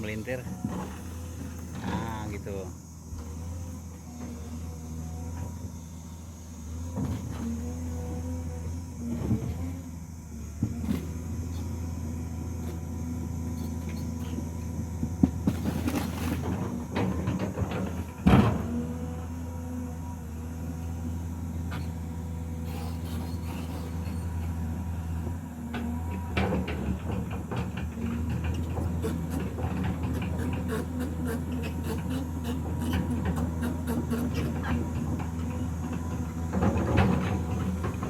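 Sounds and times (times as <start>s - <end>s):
heavy machinery diesel engine: 0.0s - 38.0s.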